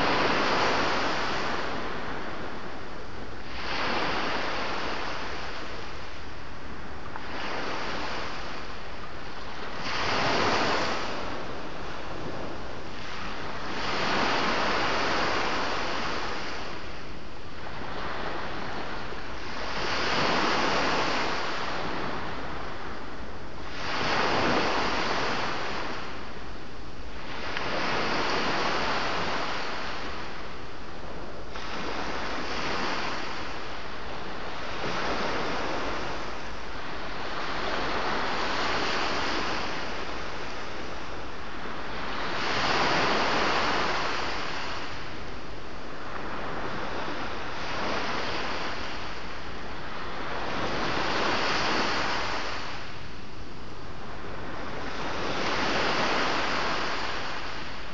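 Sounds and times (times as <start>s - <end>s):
sea waves breaking: 0.0s - 57.9s.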